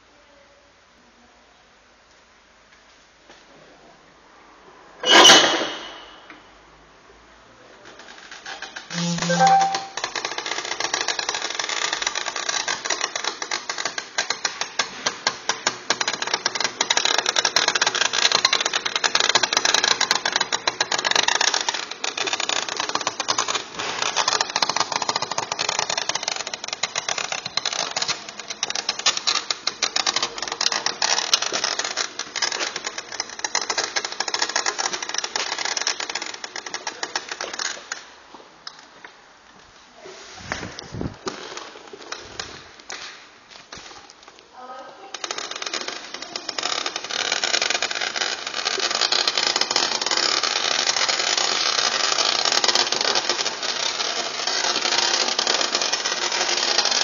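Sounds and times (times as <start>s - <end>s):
scooter clicking and rattling: 5.0s - 6.4s, 7.8s - 39.2s, 40.7s - 57.0s.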